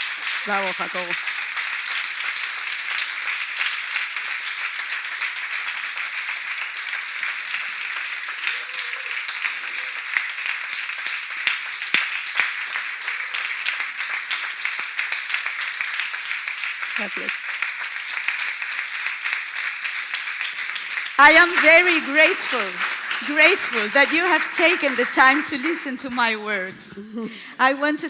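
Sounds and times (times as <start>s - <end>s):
audience applauding: 0.0s - 26.7s.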